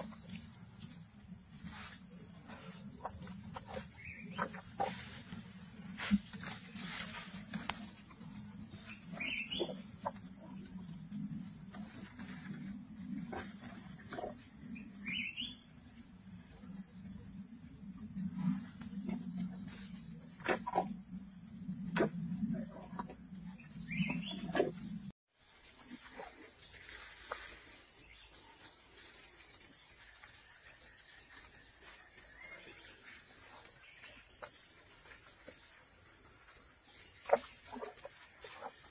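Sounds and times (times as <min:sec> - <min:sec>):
jungle insects droning: 0:00.0 - 0:38.9.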